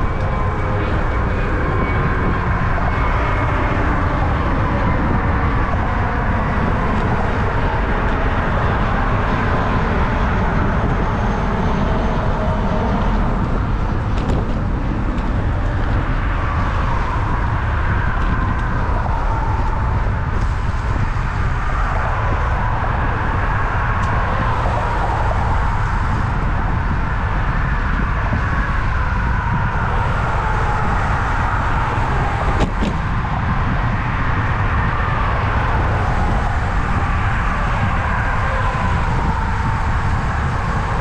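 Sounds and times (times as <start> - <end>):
cars passing: 0.0 - 41.0
low traffic rumble: 0.0 - 41.0
wavering vehicle whine: 0.0 - 41.0.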